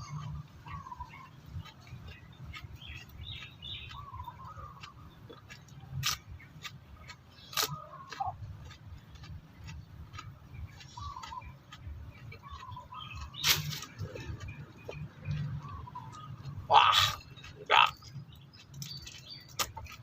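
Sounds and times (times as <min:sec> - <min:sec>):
birds chirping: 0:00.0 - 0:20.0
crunchy chewing: 0:00.0 - 0:20.0.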